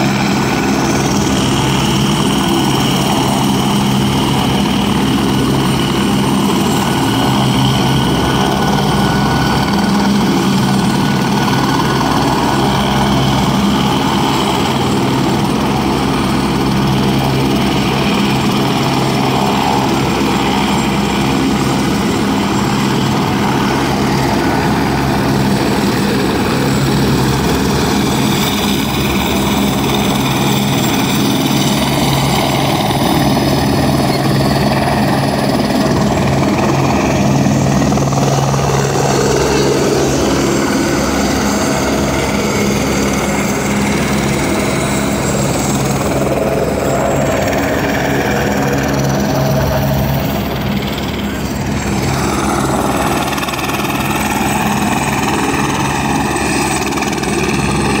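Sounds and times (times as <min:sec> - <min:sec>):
helicopter turbine and rotors: 0:00.0 - 0:58.0.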